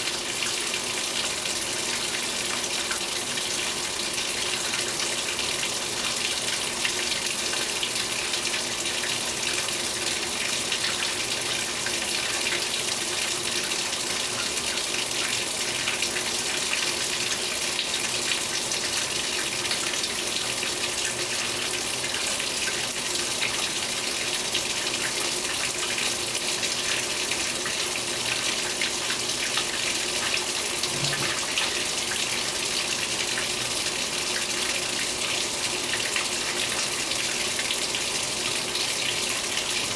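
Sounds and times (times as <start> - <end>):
water pouring into washing machine: 0.0 - 39.9.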